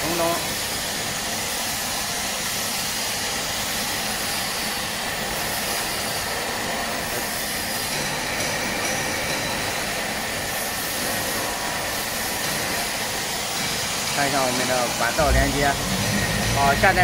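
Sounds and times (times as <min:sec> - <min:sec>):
burner fan whooshing hiss: 0:00.0 - 0:17.0.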